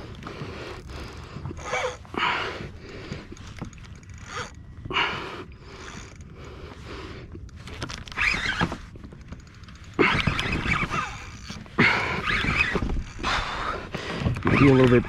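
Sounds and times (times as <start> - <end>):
fishing reel ratcheting: 0.0 - 13.8.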